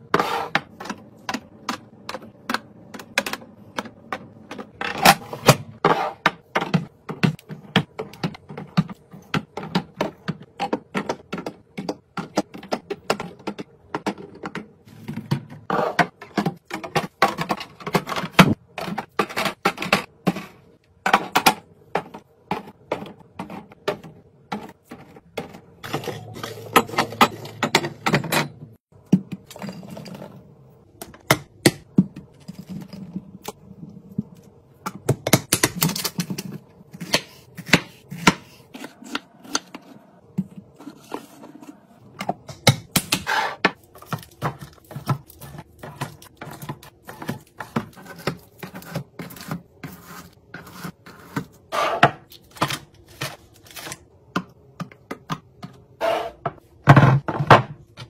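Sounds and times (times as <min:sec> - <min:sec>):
food containers clicking and knocking: 0:00.0 - 0:38.4, 0:39.2 - 0:58.0.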